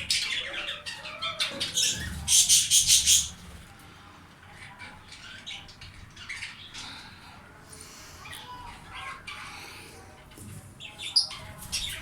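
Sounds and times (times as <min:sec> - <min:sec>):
budgerigars chirping and chattering: 0:00.0 - 0:03.7, 0:04.5 - 0:07.2, 0:08.2 - 0:12.0.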